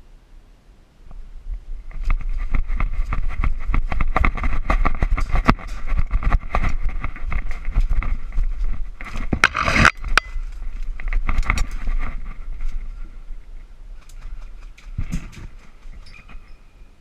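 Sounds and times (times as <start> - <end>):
microphone handling rumble: 1.0 - 16.6.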